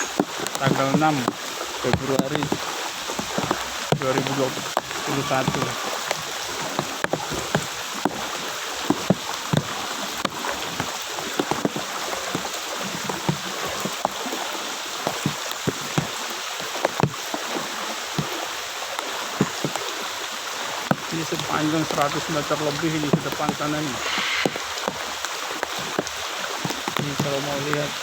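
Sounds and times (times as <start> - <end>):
person wading through water: 0.0 - 28.0
rushing water: 0.0 - 28.0.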